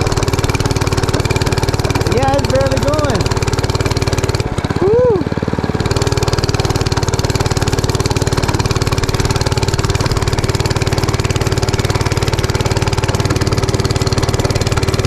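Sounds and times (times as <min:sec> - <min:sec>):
mini bike engine running: 0:00.0 - 0:15.0.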